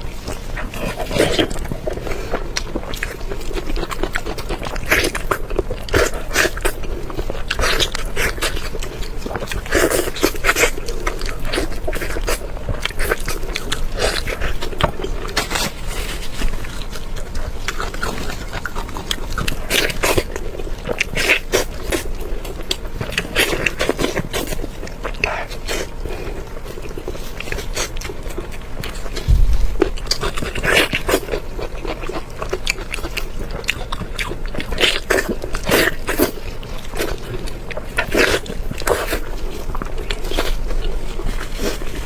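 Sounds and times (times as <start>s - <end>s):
person chewing crunchy food: 0.0s - 42.0s.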